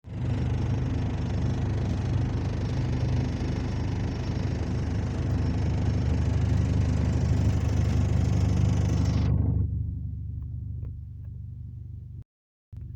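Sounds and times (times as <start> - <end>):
vehicle engine idling: 0.1 - 12.2.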